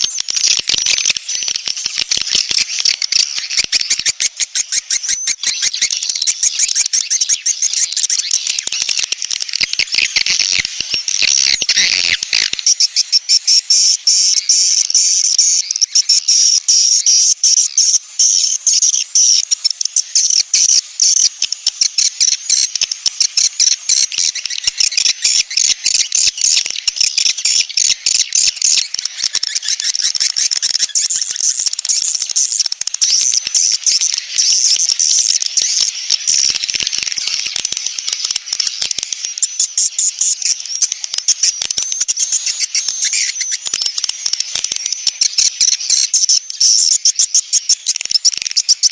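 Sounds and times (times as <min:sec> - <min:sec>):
high-pitched bird chittering: 0:00.0 - 0:48.9.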